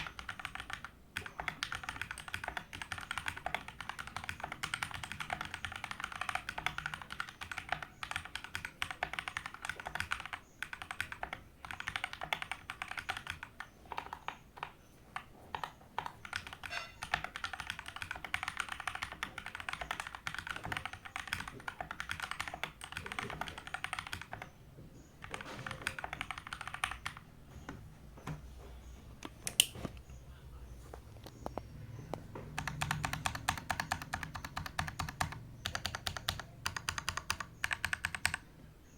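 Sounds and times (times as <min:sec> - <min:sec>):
mechanical keyboard typing: 0:00.0 - 0:24.5, 0:25.2 - 0:27.3, 0:32.5 - 0:38.5.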